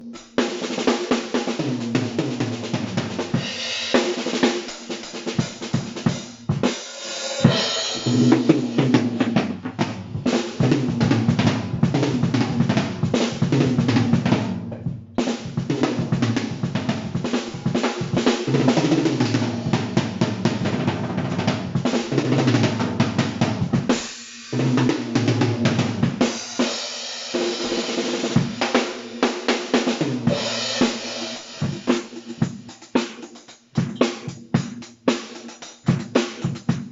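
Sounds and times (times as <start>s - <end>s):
drum kit playing: 0.0s - 36.9s.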